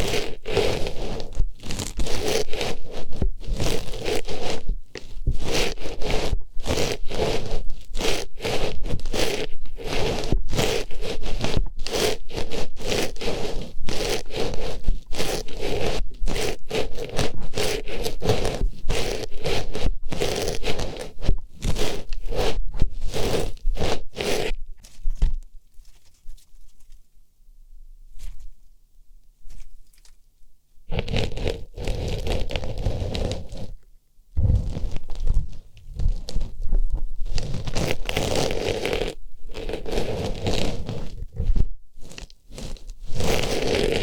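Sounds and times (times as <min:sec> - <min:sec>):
artificial flower scraping microphone: 0:00.0 - 0:27.0, 0:30.9 - 0:44.0.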